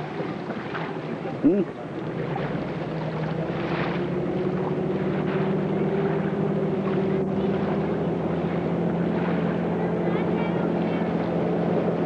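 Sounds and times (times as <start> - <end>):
powerboat engine drone: 0.0 - 12.0.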